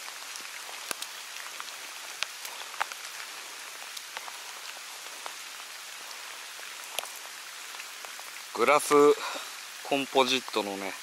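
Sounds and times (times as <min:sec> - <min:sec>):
rain hiss: 0:00.0 - 0:11.0
raindrops ticking: 0:00.0 - 0:11.0.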